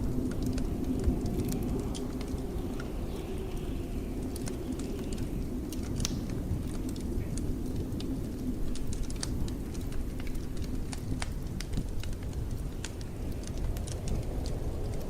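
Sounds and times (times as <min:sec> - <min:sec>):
blizzard wind rumbling: 0:00.0 - 0:15.0
wood fire crackling: 0:00.0 - 0:15.0.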